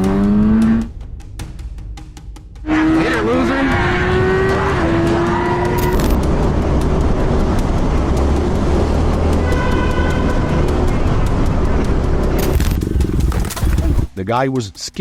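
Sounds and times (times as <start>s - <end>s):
vehicle engine: 0.0s - 1.0s, 2.7s - 14.1s
road and wind noise: 0.0s - 1.2s, 2.6s - 14.1s.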